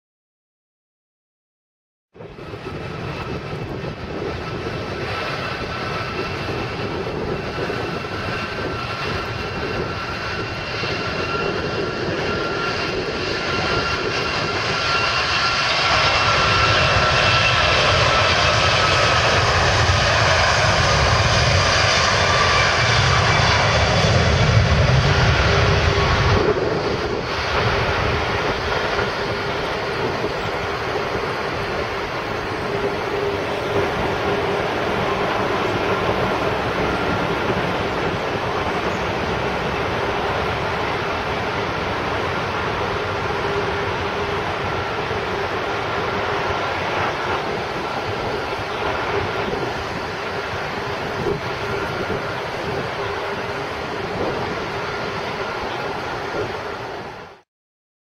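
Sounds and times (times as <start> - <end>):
jet engines roaring with whine: 2.2 - 57.5.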